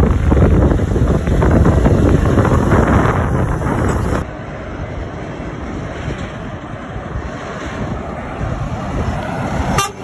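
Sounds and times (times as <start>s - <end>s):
wind buffeting the microphone: 0.0s - 9.8s
distant lorry approaching: 0.0s - 10.0s
road noise: 0.0s - 10.0s
lorry passing close by: 0.1s - 10.0s.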